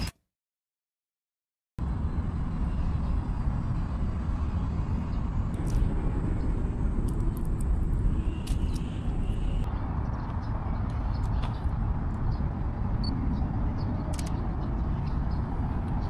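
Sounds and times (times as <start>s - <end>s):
road traffic rumble: 1.8s - 16.0s.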